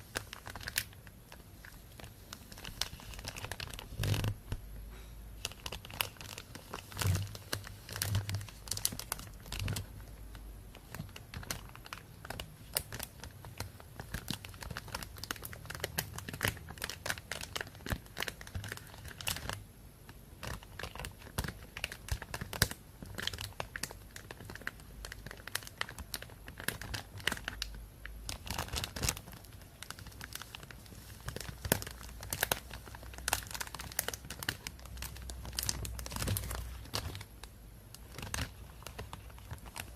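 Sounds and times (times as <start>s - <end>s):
plastic bag crinkling: 0.0s - 4.6s, 5.4s - 19.6s, 20.4s - 39.9s.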